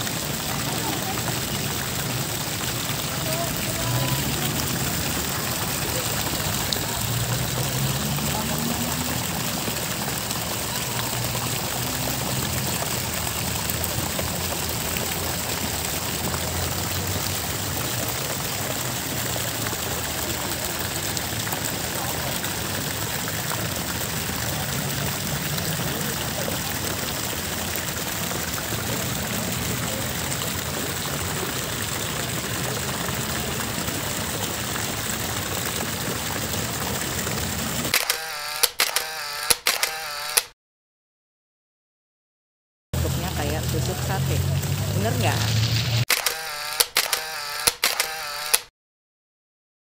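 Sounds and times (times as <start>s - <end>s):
fountain water splashing into pool: 0.0s - 40.4s, 43.0s - 48.6s.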